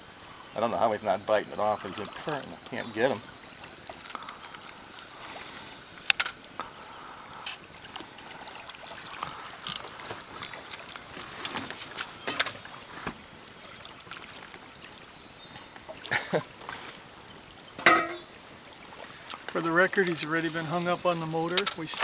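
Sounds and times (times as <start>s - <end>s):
water lapping around boat: 0.0s - 22.0s.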